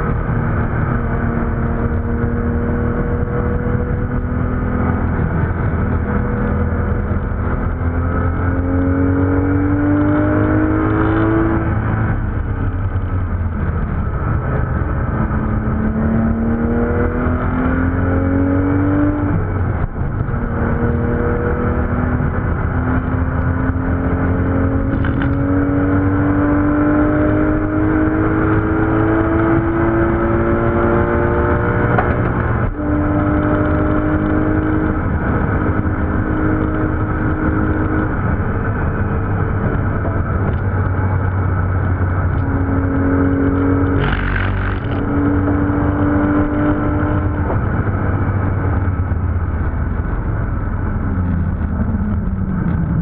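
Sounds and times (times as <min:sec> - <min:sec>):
car engine accelerating: 0:00.0 - 0:53.0
road noise: 0:00.0 - 0:53.0.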